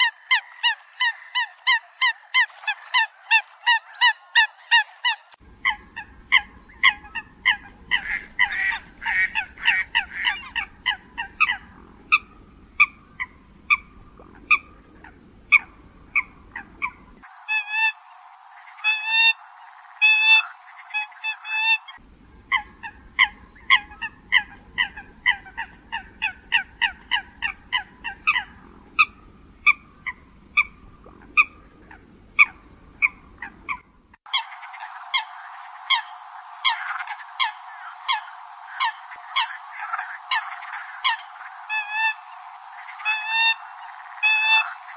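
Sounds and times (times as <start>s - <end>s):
coots honking calls: 0.0s - 18.0s, 20.0s - 44.9s.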